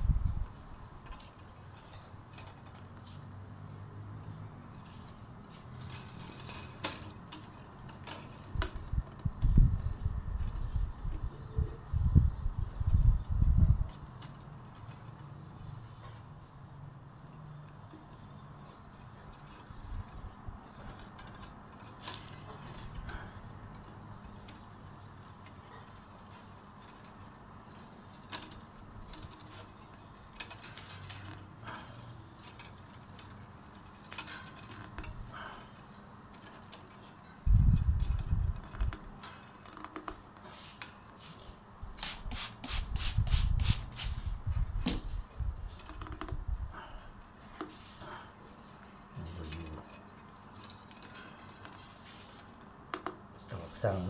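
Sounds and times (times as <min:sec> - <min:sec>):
bamboo strips clicking and rustling: 0:00.0 - 0:54.0.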